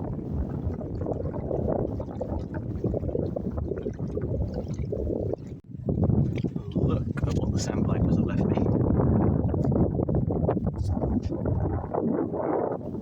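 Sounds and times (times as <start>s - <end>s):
water rushing past boat hull: 0.0s - 13.0s.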